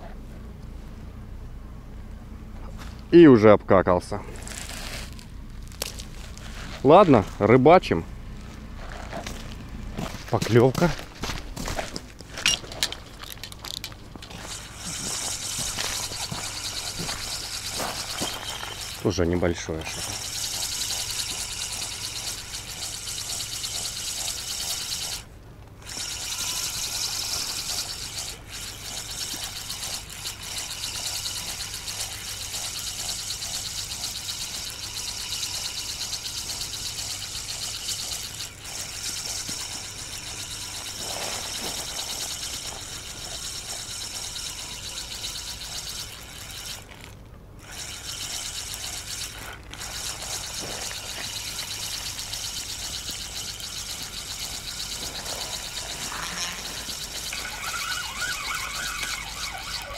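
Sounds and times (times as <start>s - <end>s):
fishing reel whirring and clicking: 8.9s - 59.9s.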